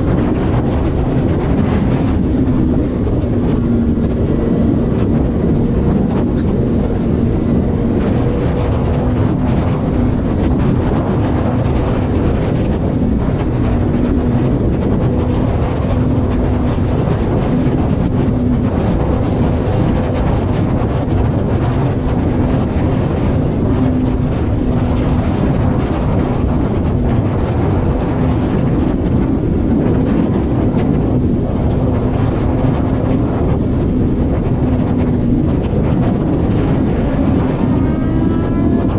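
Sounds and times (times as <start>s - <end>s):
car engine droning: 0.0s - 38.9s
tyre and wind noise: 0.0s - 38.9s.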